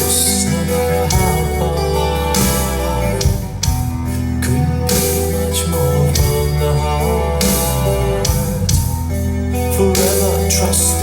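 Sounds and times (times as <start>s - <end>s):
guitar lines: 0.0s - 11.0s
rock ballad over loudspeakers: 0.0s - 11.0s
steady bass: 0.0s - 11.0s.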